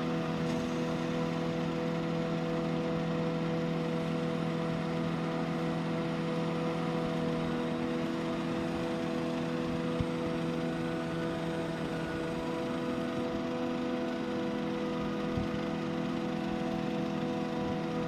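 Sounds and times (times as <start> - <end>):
forage harvester and tractor droning: 0.0 - 18.0.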